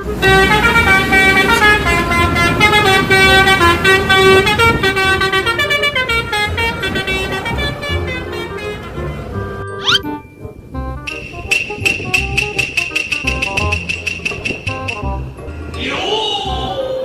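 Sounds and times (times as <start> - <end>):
musical air horns playing a tune: 0.0 - 10.1, 11.0 - 15.4.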